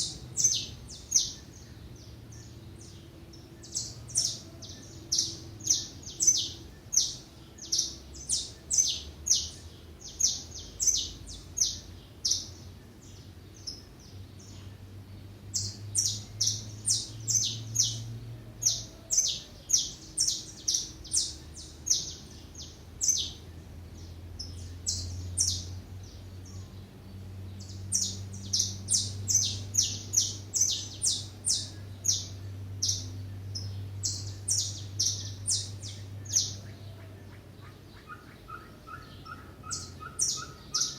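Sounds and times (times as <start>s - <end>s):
faint low hum: 0.0s - 40.9s
small birds chirping: 0.0s - 40.9s.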